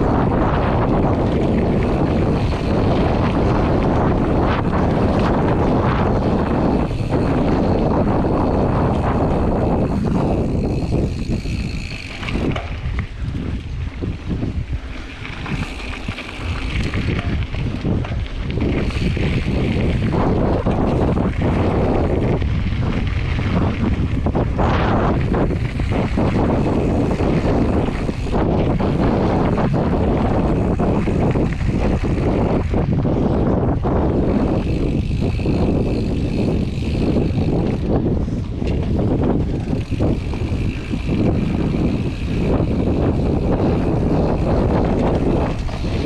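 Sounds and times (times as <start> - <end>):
bike knocks and rattles: 0.0 - 46.0
tyres on dirt: 0.0 - 46.0
wind buffeting microphone: 0.0 - 46.0.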